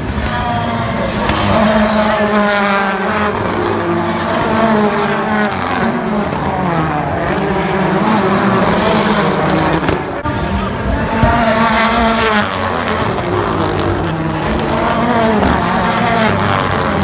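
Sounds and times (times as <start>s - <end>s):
race car engines revving past: 0.0s - 17.0s.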